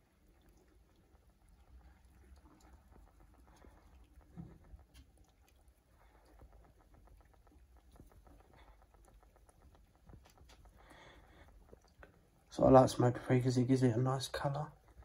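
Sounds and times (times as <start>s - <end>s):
spice sprinkling ticks: 0.0s - 12.6s.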